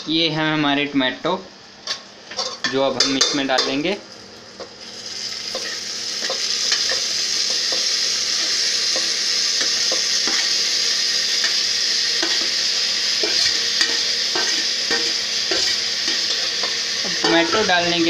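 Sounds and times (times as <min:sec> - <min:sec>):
tomatoes sizzling: 0:01.6 - 0:18.0.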